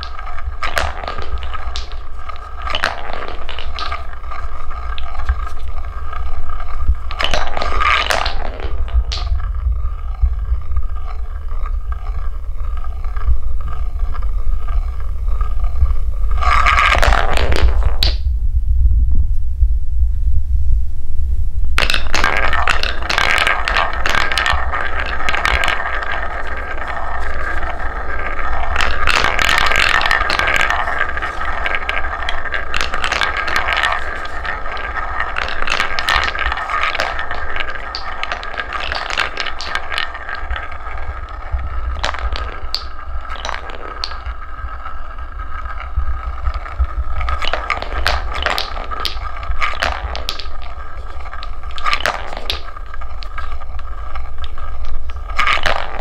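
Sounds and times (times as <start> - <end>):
wooden balls clacking: 0.0 - 18.3, 21.8 - 56.0
wooden balls rolling in bowl: 0.0 - 18.4, 21.7 - 56.0.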